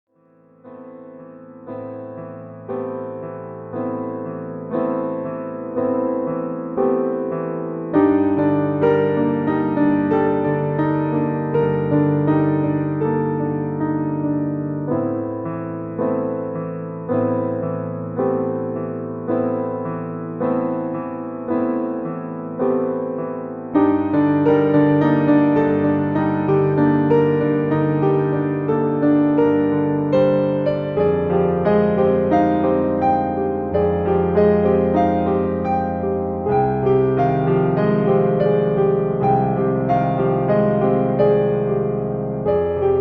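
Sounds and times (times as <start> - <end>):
slow electric piano chords: 0.2 - 43.0.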